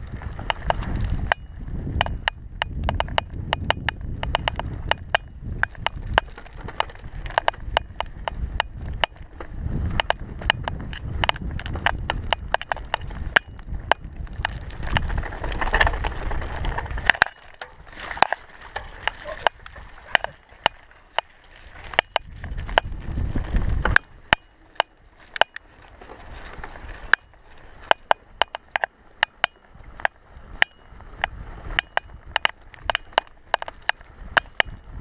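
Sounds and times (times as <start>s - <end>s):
bike rattling over bumps: 0.0s - 35.0s
wind and tyre rumble: 0.0s - 35.0s.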